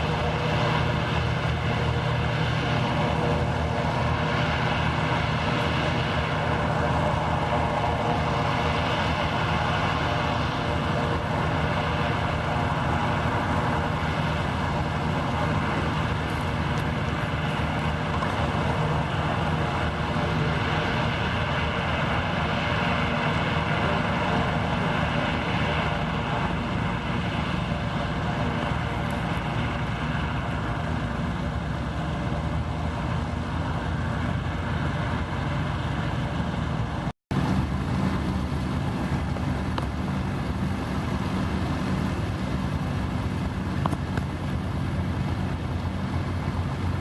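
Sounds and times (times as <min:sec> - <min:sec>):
engine droning with high whine: 0:00.0 - 0:47.0.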